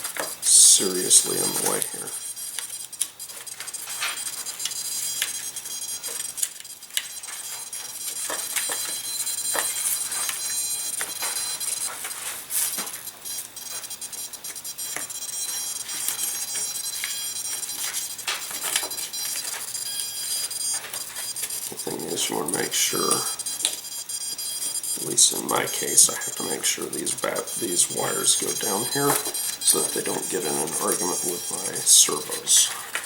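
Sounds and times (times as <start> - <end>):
small parts clicking: 0.0 - 33.0
steady high-pitched whine: 0.0 - 33.0.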